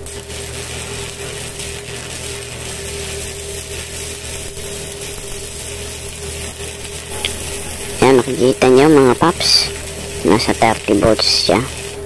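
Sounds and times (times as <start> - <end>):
faint steady hum: 0.0 - 12.0
welding arc crackling: 0.0 - 12.0.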